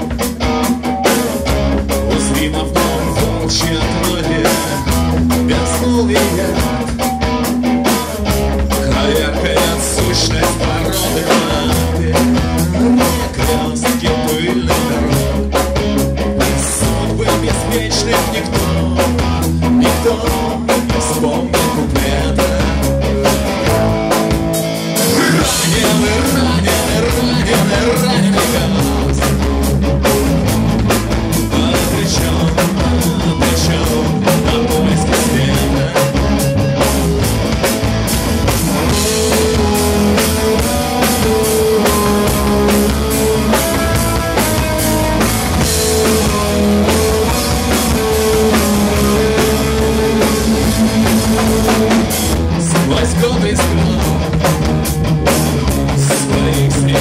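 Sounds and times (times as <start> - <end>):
drum kit: 0.0 - 57.0
electric guitars: 0.0 - 57.0
man singing: 1.9 - 7.2, 7.8 - 15.7, 16.4 - 23.8, 24.8 - 29.5, 31.3 - 36.9, 38.8 - 54.6, 55.9 - 57.0.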